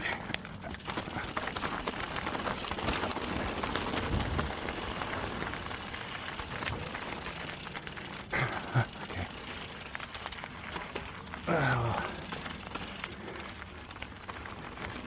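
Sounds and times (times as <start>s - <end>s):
bike rattling with small clicks: 0.0s - 15.0s
tyres crunching over loose stones: 0.0s - 15.0s.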